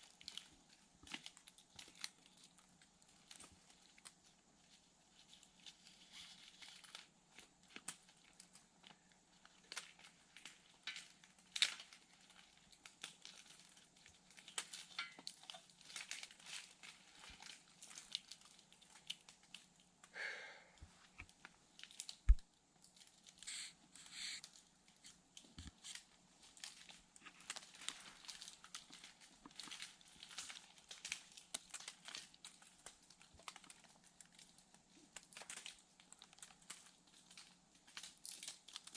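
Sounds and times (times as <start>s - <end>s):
rustling and scraping on tree: 0.1s - 19.6s, 23.2s - 35.7s.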